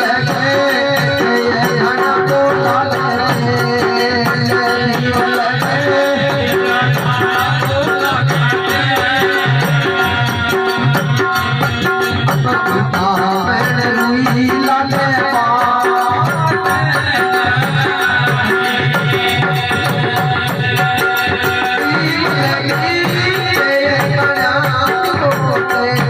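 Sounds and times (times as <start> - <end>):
quick drum beat: 0.0 - 26.0
rattling jingling percussion: 0.0 - 26.0.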